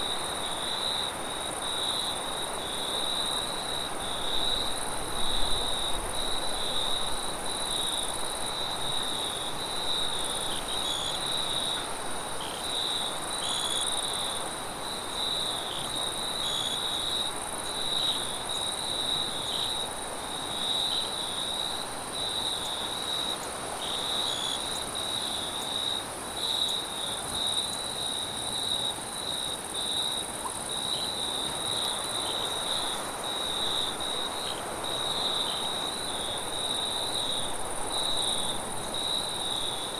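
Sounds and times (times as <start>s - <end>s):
crickets chirping: 0.0s - 39.9s
high insect trill: 0.0s - 39.9s.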